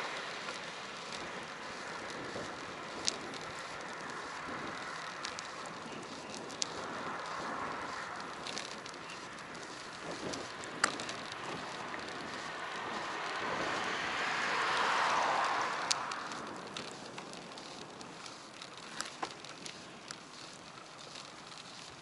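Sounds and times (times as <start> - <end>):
small clicks and rattles: 0.0 - 22.0
wind and tyre rush: 0.0 - 22.0.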